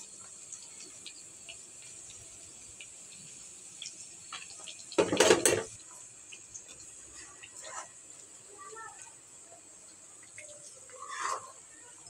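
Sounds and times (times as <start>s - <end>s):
deep-frying sizzle: 0.0s - 12.0s.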